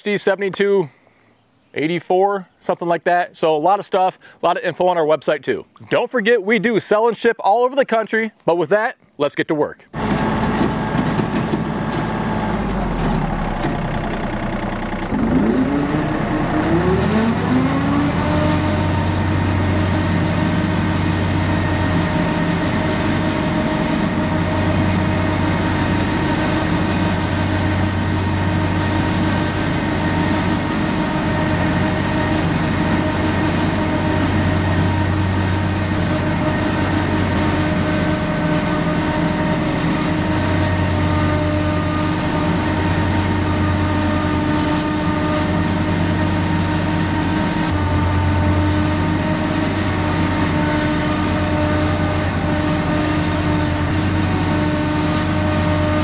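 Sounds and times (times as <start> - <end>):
tractor diesel engine: 9.9 - 56.0
low hum: 10.0 - 56.0.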